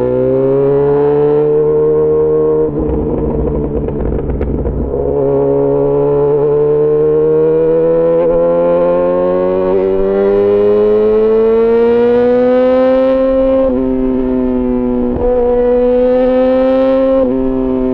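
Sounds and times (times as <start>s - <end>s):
motorcycle engine accelerating: 0.0s - 17.9s.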